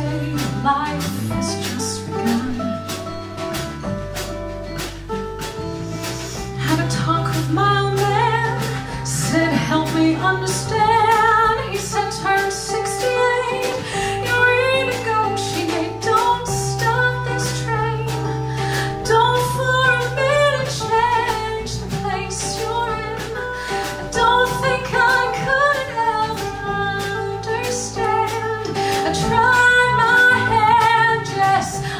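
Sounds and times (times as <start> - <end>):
woman singing with vibrato: 0.0 - 3.6, 6.6 - 18.3, 18.9 - 31.9
guitar accompaniment: 0.0 - 31.9.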